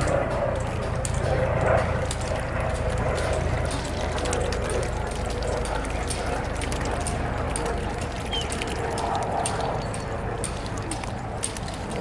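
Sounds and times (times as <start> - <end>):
bills clicking at water surface: 0.0 - 12.0
low steady rumble: 0.0 - 12.0.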